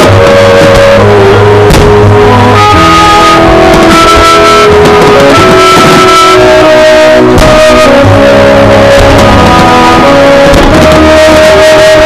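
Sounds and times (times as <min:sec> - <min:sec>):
loud music with held notes: 0:00.0 - 0:12.0.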